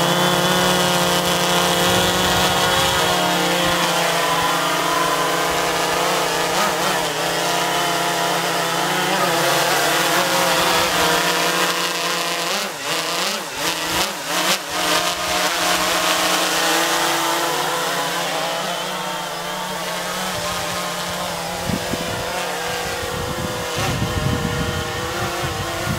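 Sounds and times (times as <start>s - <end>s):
drone propellers buzzing: 0.0s - 25.9s.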